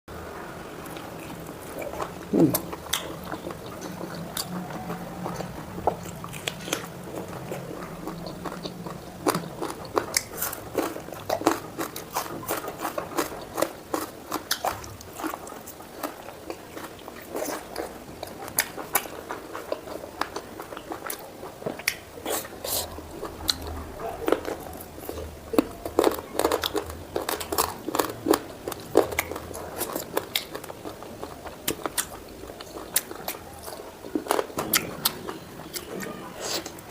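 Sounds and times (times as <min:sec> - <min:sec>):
low steady hum: 0:00.1 - 0:36.9
person chewing wet crunches: 0:00.8 - 0:36.9.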